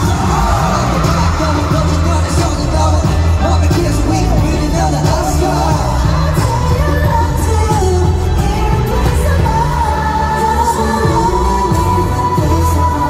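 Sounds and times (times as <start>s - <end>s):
man singing into a microphone: 0.0s - 13.0s
pop backing track with bass: 0.0s - 13.0s.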